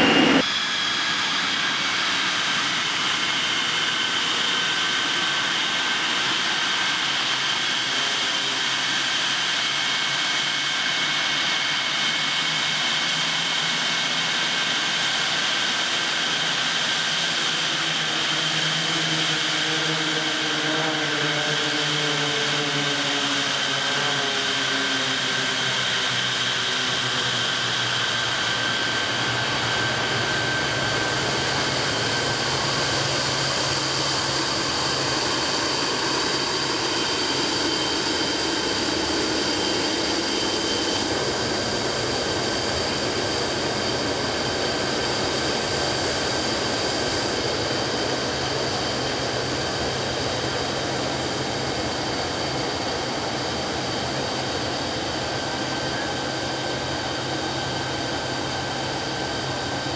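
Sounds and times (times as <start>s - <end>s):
high jet whine: 0.0s - 59.9s
jet engine rushing: 0.0s - 59.9s.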